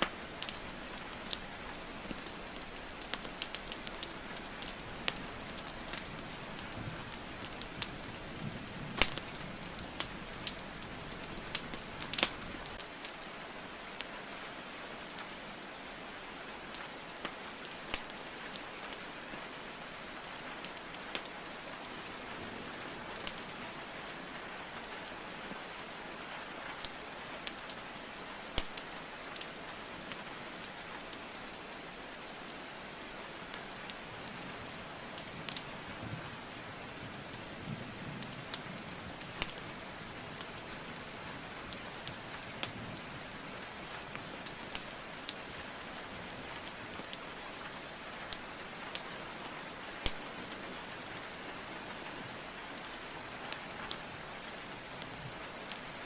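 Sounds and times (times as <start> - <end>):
steady rainfall: 0.0 - 56.0
wood fire crackling: 0.0 - 56.0.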